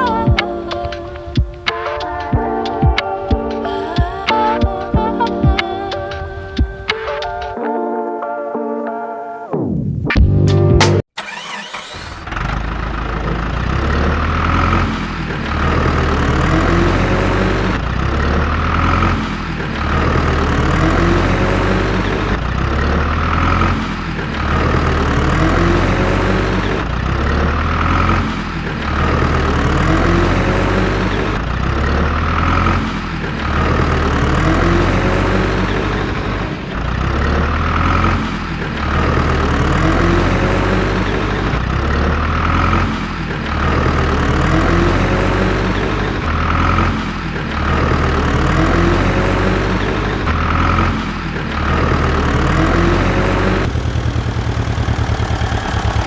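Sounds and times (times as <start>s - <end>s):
tractor engine running: 10.2s - 56.0s.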